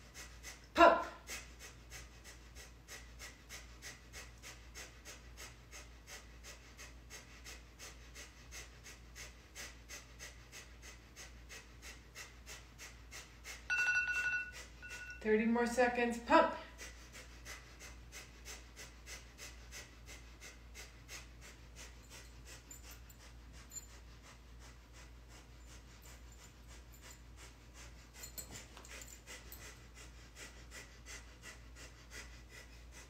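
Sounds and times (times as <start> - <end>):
fast rhythmic breathing: 0.0 - 33.0.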